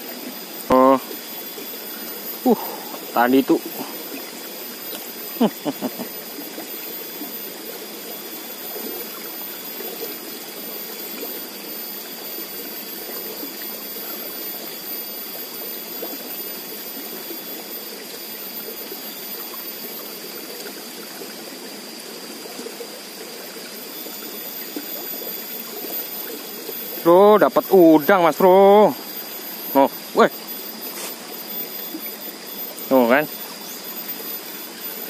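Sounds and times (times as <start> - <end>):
water rushing along a channel: 0.0 - 35.0.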